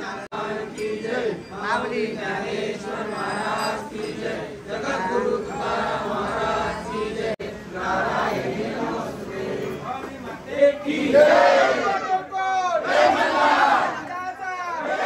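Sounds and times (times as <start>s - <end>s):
crowd chanting in unison: 0.0s - 14.1s, 14.8s - 15.0s.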